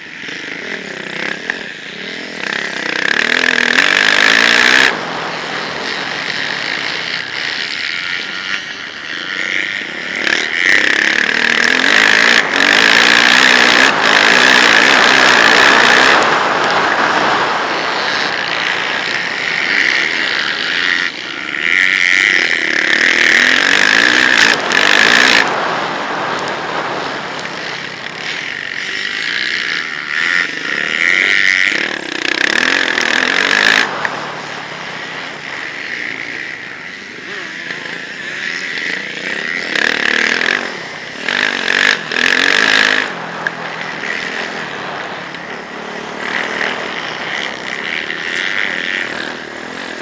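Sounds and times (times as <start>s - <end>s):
motorbike engine revving: 0.0s - 50.0s.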